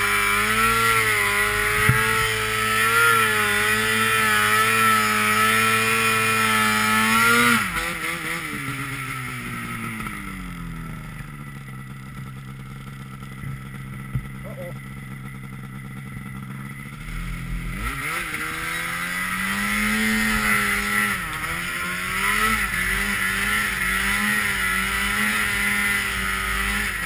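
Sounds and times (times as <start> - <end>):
snowmobile engine revving: 0.0 - 27.0.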